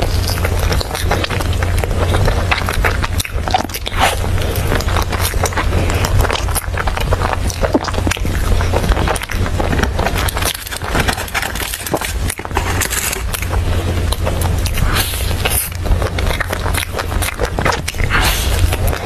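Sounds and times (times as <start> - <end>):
person chewing: 0.0 - 19.0
steady low rumble: 0.0 - 19.0.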